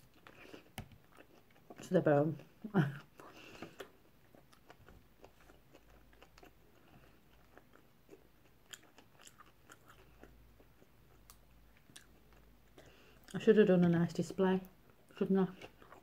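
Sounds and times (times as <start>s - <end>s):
faint chewing: 0.0s - 13.4s, 14.6s - 16.0s.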